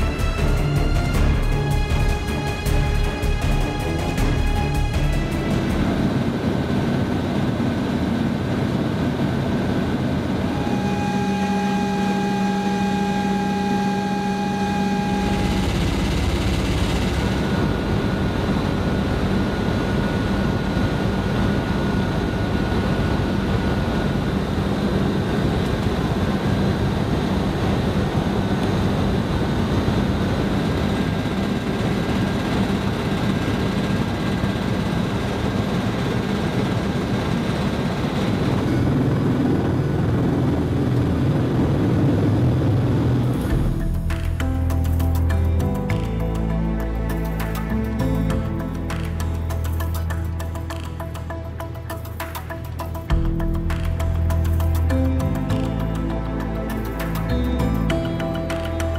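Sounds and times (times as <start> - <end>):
aircraft rotor and engine noise: 0.0 - 58.9
steady whining tones: 0.0 - 58.9.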